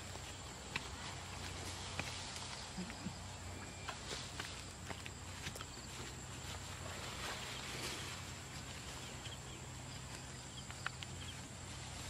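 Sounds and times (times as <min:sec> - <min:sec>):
background hiss: 0:00.0 - 0:12.0
footsteps on muddy soil: 0:00.0 - 0:12.0.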